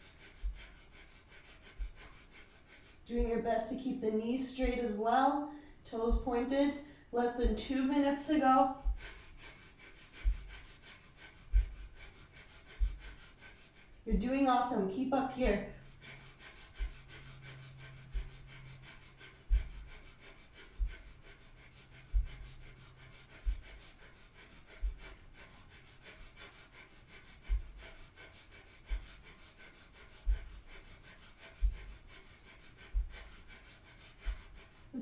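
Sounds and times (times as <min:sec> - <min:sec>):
rapid forceful nose breathing: 0:00.0 - 0:35.0.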